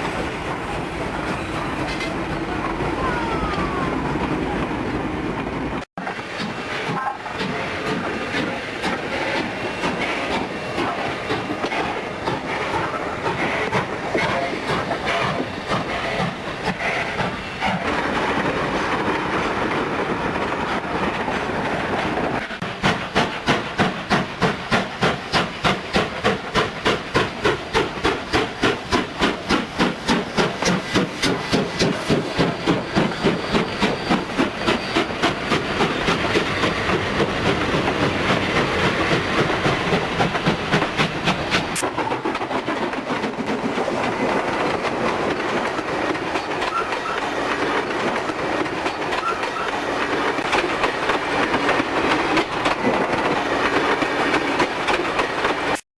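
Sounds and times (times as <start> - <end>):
steam train chuffing beat: 6.0 - 55.8
steam train rumbling hiss: 6.0 - 55.8.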